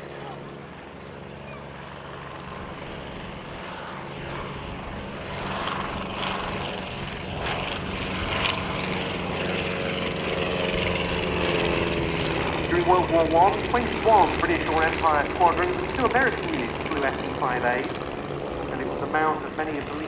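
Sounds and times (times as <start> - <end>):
propeller plane engine droning: 0.0 - 20.0.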